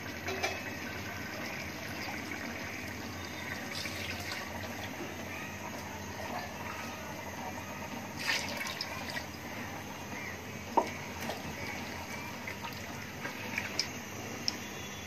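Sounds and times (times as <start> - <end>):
water pouring into a pot: 0.0 - 9.9, 10.7 - 14.6.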